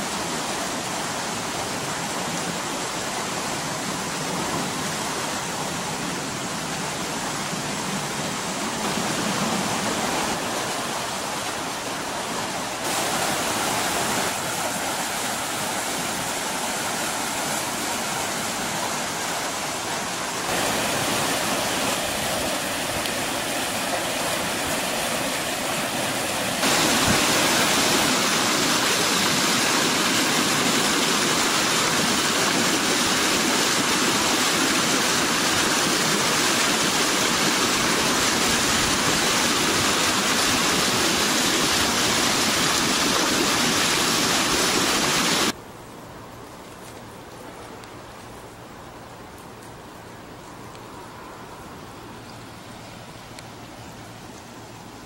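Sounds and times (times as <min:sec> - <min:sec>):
floodwater rushing into culvert: 0:00.0 - 0:55.0.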